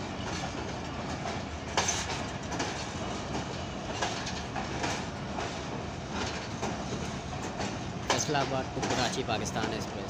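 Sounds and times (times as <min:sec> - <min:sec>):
train wheels clacking over rail joints: 0:00.0 - 0:10.0.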